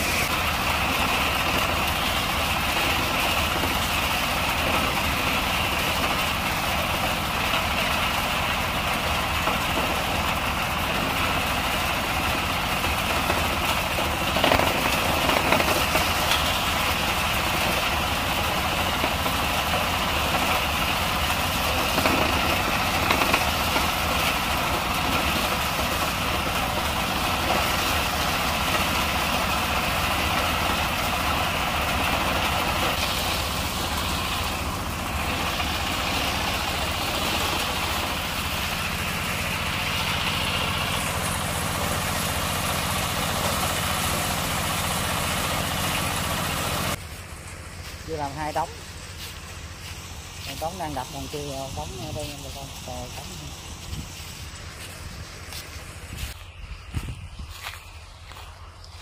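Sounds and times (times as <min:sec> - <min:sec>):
thresher engine running: 0:00.0 - 0:59.0.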